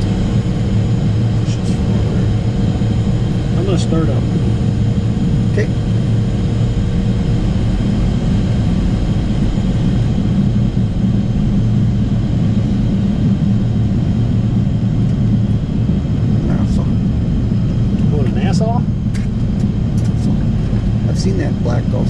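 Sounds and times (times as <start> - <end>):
high-pitched whine: 0.0 - 22.0
jet engine low rumble: 0.0 - 22.0.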